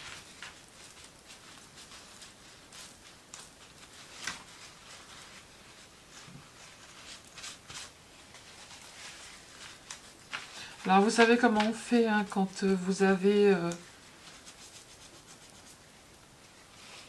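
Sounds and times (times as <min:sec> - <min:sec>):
paper crinkles: 0:00.0 - 0:15.9
paper rustling and rubbing: 0:00.0 - 0:17.0.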